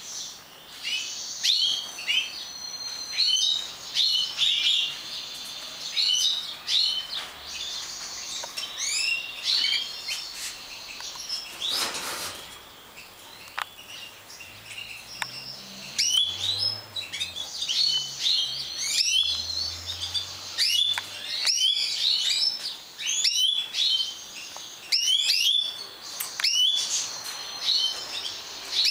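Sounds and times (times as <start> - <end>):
goldfinches twittering and chirping: 0.0 - 28.9.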